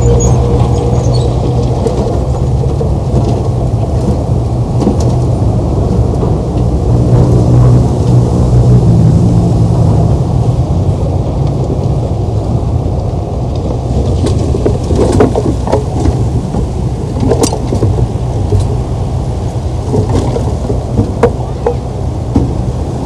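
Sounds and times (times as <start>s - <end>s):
diesel machinery rumbling: 0.0s - 23.0s.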